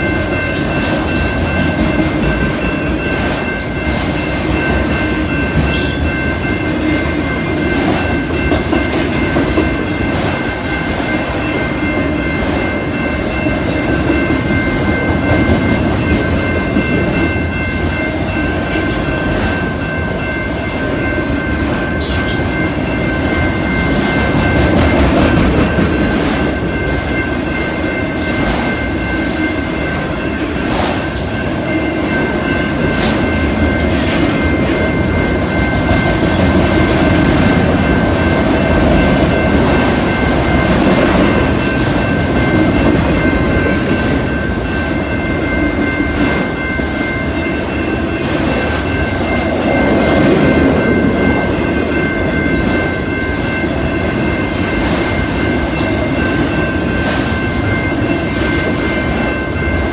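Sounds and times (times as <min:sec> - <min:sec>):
high ringing tone: 0:00.0 - 0:59.9
train wheels rumbling on rail: 0:00.0 - 0:59.9.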